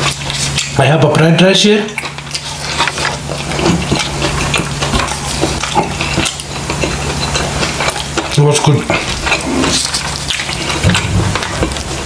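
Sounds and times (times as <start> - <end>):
chewing food: 0.0 - 12.0
steady low hum: 0.0 - 12.0.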